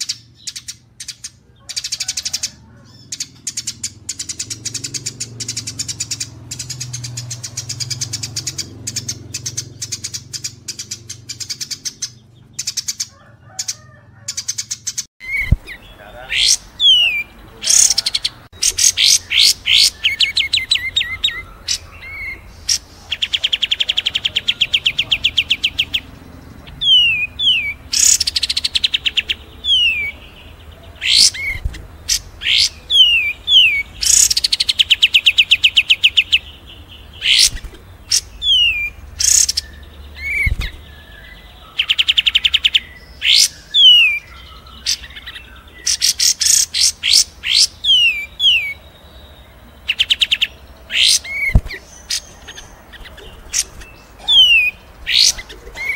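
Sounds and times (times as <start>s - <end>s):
bird whistles and trills: 0.0s - 30.3s, 30.9s - 48.8s, 49.8s - 55.9s
songbird chattering chirps: 0.0s - 55.9s.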